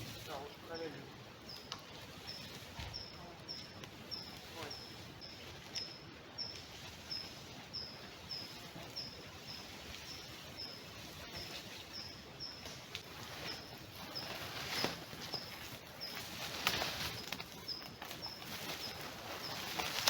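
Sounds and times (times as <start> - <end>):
bird calling: 0.0 - 20.0
faint forest background: 0.0 - 20.0.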